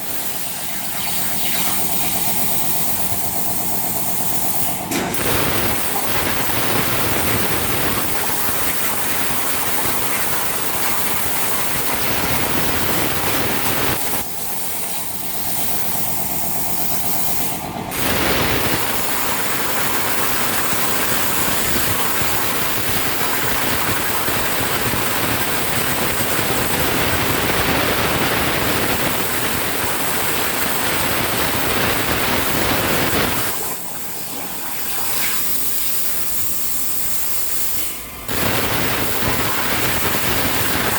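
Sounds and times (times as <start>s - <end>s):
plasma cutter torch hissing: 0.0s - 40.9s
steady machine hum: 0.0s - 40.9s.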